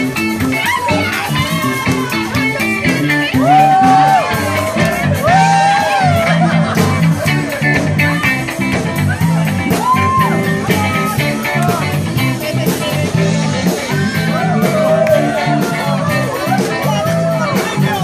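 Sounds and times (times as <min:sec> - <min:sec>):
bass line: 0:00.0 - 0:18.0
drum beat: 0:00.0 - 0:18.0
guitar: 0:00.0 - 0:18.0.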